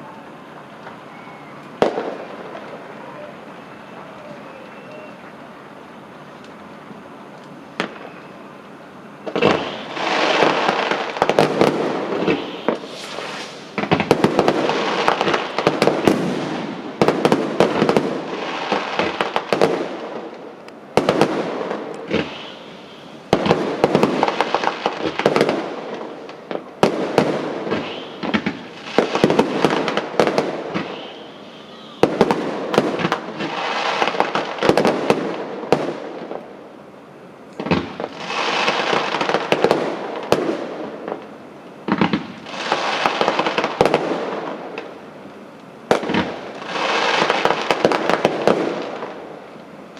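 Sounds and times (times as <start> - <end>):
fireworks banging and crackling: 0.0 - 49.9.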